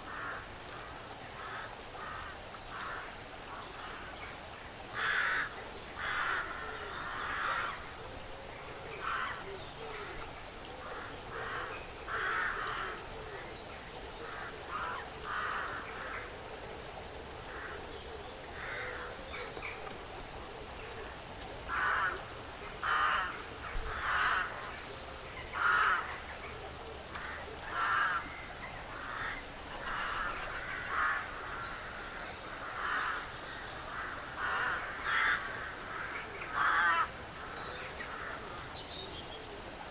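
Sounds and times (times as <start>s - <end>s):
faint forest background: 0.0s - 39.9s.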